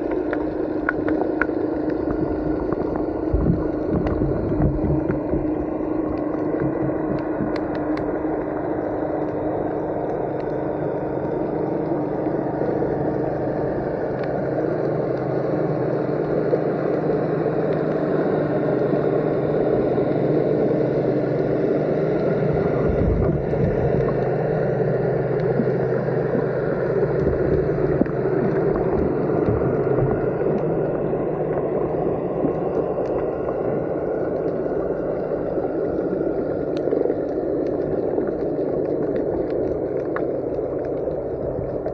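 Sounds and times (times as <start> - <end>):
low hum: 0.0 - 41.9
underwater rush of water: 0.0 - 41.9.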